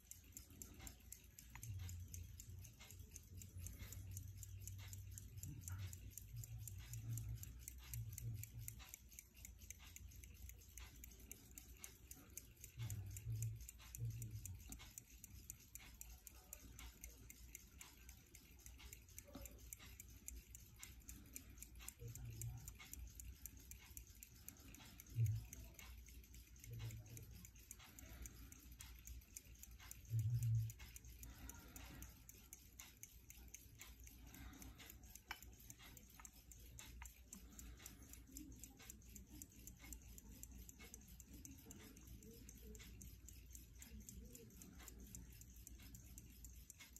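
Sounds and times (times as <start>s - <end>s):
pocket watch ticking: 0.0s - 46.9s.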